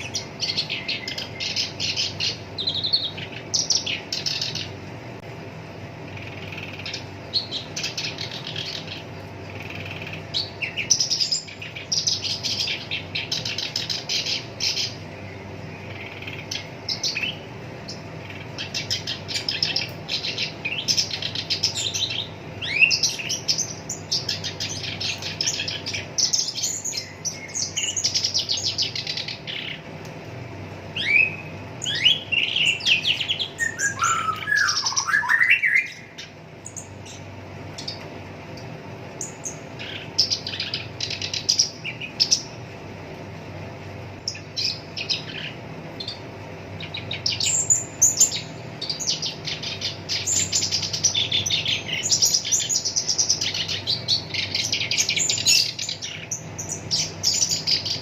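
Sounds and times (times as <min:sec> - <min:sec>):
warbler chattering song: 0:00.0 - 0:58.0.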